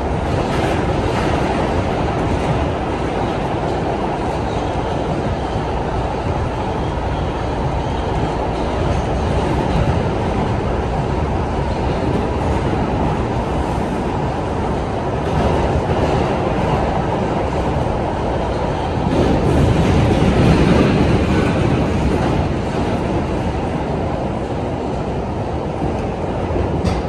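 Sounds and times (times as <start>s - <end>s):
subway train wheels rumbling: 0.0s - 27.0s.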